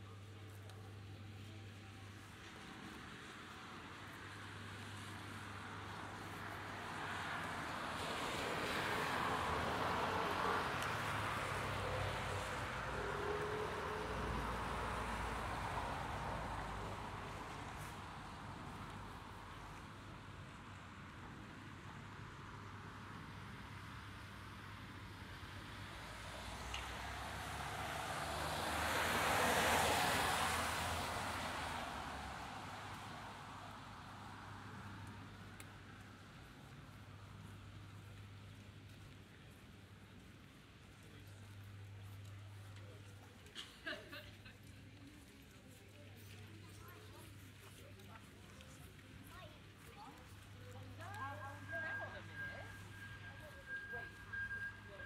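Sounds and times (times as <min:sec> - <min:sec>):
tyre hiss on wet street: 0:01.3 - 0:54.9.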